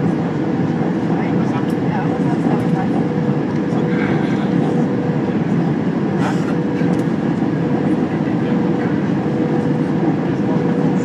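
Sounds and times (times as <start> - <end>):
aircraft cabin engine roar: 0.0 - 11.0.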